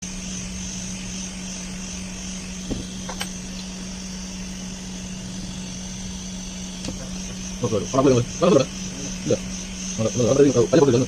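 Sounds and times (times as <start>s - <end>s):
high hiss: 0.0s - 11.0s
steady mechanical hum: 0.0s - 11.0s.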